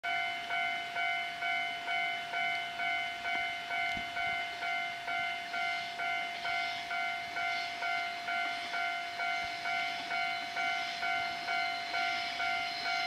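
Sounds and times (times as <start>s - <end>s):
electronic crossing bell dinging: 0.0s - 13.0s.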